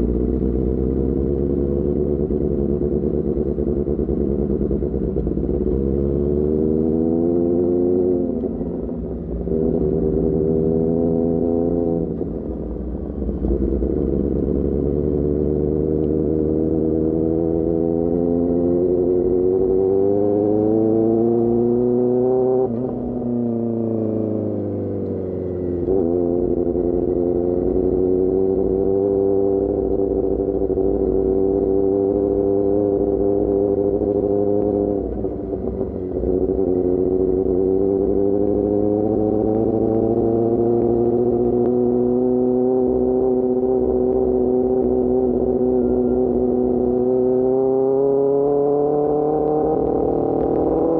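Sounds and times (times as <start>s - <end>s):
motorcycle engine revving through gears: 0.0s - 50.9s.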